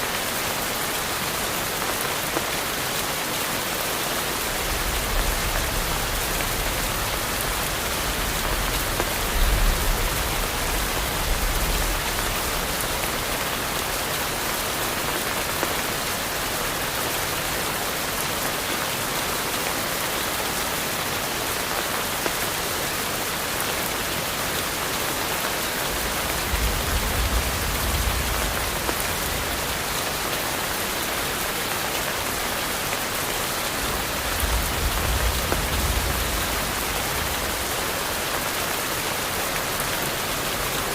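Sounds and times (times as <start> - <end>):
rain on foliage: 0.0 - 40.9.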